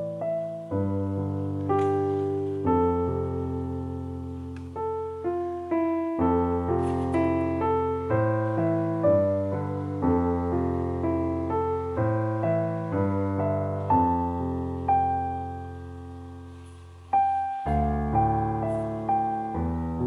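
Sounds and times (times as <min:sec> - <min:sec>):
soft slow instrumental music: 0:00.0 - 0:20.0.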